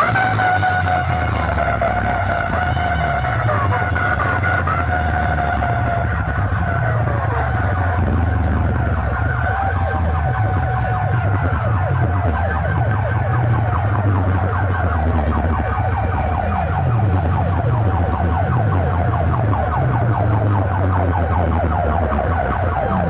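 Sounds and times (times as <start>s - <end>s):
deep bass drone: 0.0s - 23.0s
siren-like electronic tones: 0.0s - 23.0s.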